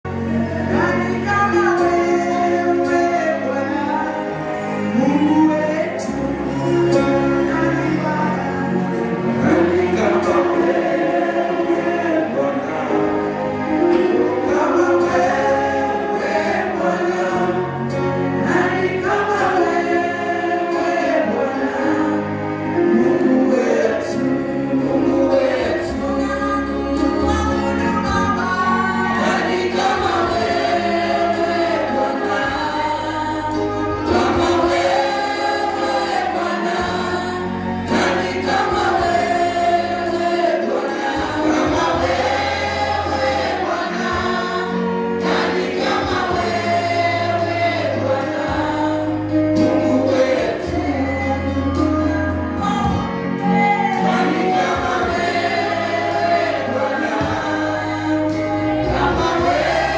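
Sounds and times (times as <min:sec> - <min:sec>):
gospel choir singing: 0:00.0 - 0:59.9
instrumental backing: 0:00.0 - 0:59.9.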